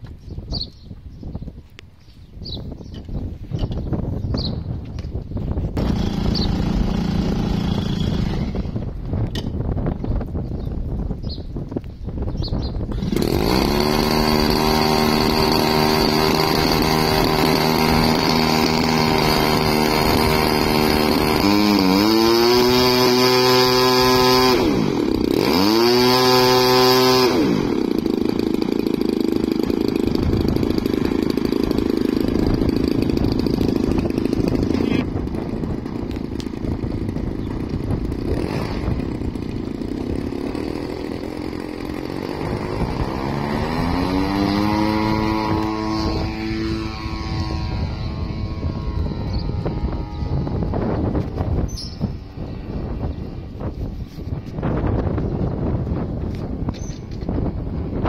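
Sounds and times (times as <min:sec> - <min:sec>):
model aeroplane engine: 0:05.5 - 0:58.0.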